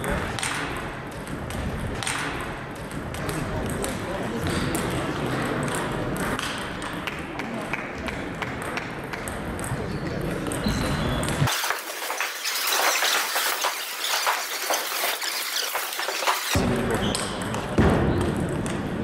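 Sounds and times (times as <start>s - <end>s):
table tennis hall noise: 0.0s - 19.0s.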